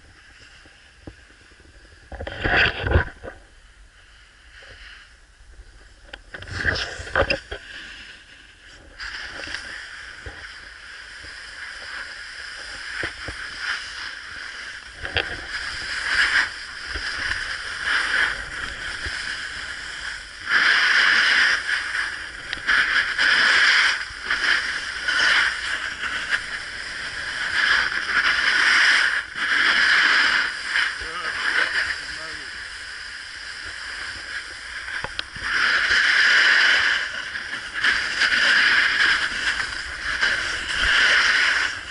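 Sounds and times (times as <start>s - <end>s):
snowboard scraping over snow: 4.5s - 41.9s.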